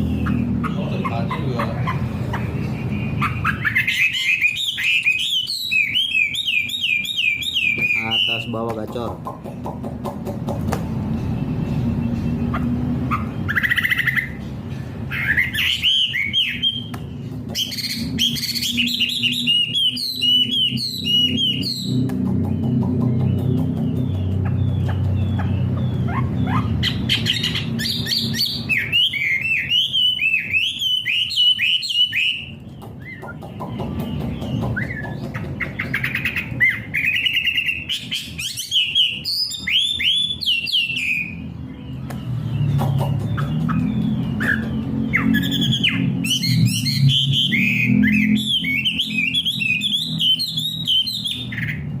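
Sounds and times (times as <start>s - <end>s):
songbird chirps and whistles: 2.2s - 8.6s, 11.2s - 14.4s, 15.1s - 51.9s.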